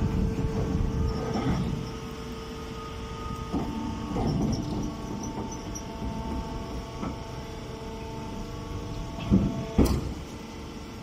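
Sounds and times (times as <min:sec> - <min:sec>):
motor and hydraulic pump humming: 0:00.0 - 0:11.0.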